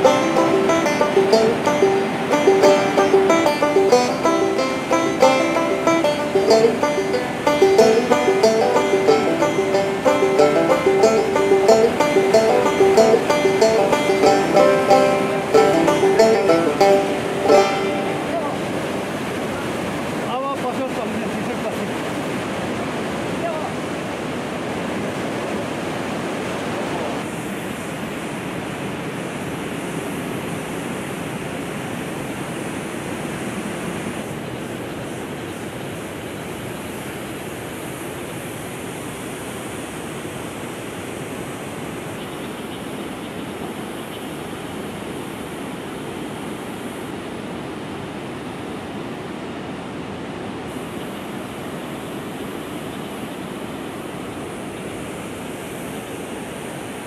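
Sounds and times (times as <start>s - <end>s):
river white water roaring: 0.0s - 42.2s, 42.8s - 57.0s.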